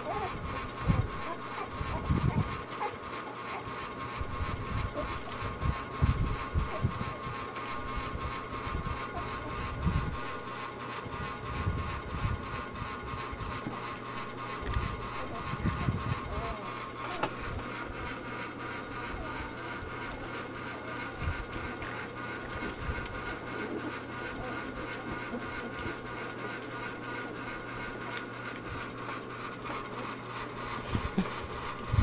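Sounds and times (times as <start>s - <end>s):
electric fan humming: 0.0s - 32.0s
fan ticking rattle: 0.0s - 32.0s.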